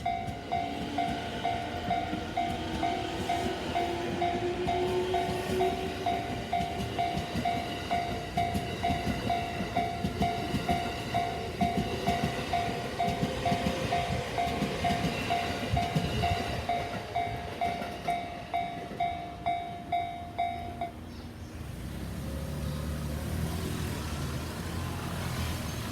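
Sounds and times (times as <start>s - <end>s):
level-crossing warning bell: 0.0s - 21.4s
train rumbling and wheel clacks: 0.0s - 25.9s.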